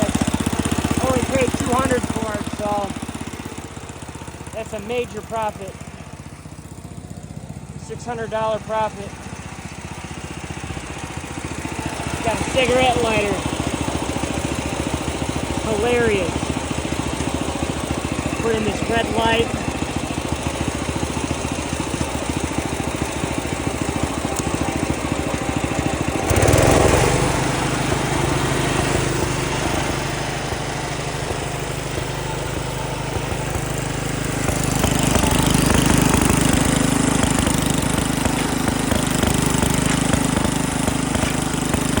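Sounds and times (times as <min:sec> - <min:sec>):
lawn tractor engine running: 0:00.0 - 0:42.0.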